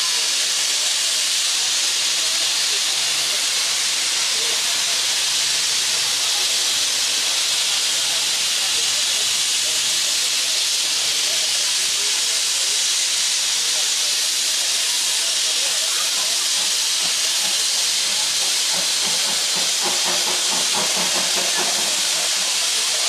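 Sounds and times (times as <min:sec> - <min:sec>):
locomotive steam hissing: 0:00.0 - 0:23.0.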